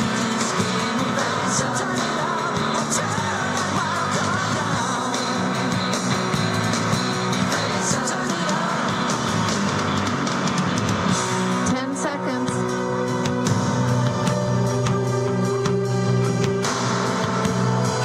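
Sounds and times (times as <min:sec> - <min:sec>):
song with guitar and singing: 0:00.0 - 0:18.0.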